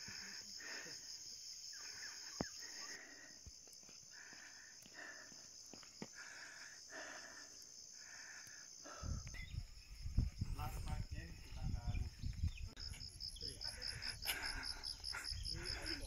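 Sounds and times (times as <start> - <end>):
insect chorus buzzing: 0.0 - 16.0.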